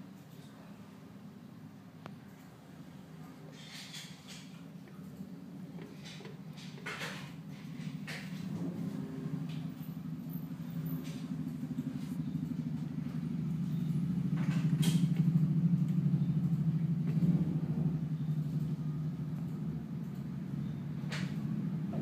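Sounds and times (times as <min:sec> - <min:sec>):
solenoid valve coils humming: 0:00.8 - 0:22.0.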